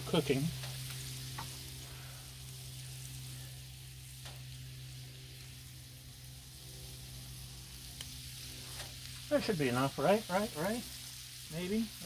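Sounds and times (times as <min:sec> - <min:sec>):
food sizzling on griddle: 0:00.0 - 0:12.0
steady low hum: 0:00.0 - 0:12.0.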